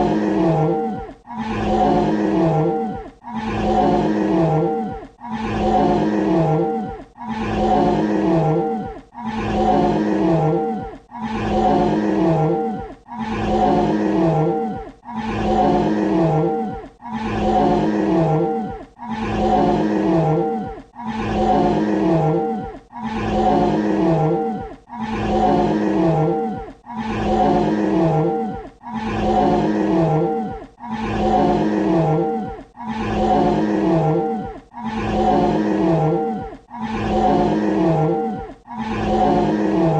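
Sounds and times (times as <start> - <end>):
dinosaur roar: 0.0 - 39.9.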